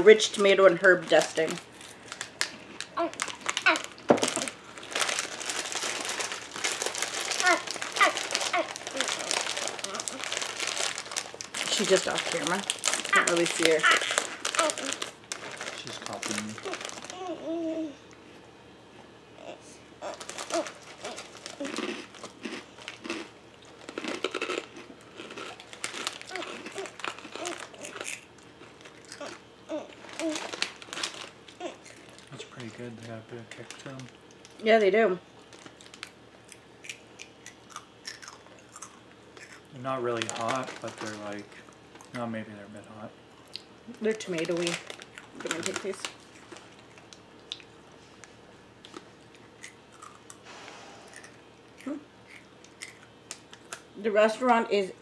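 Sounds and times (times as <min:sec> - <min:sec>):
plastic snack bag crinkling: 0:00.2 - 0:17.9, 0:20.0 - 0:34.6, 0:35.4 - 0:42.4, 0:43.5 - 0:50.4.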